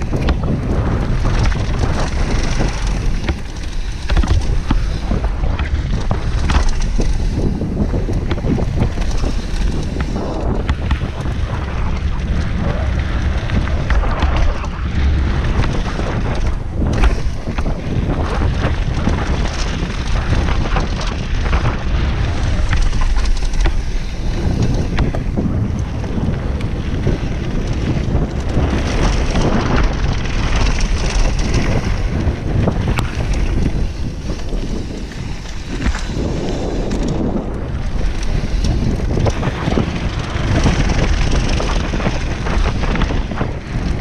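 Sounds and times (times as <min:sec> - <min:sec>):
bike rattling over bumps: 0:00.0 - 0:44.0
tyres crunching on gravel: 0:00.0 - 0:44.0
wind buffeting microphone: 0:00.0 - 0:44.0.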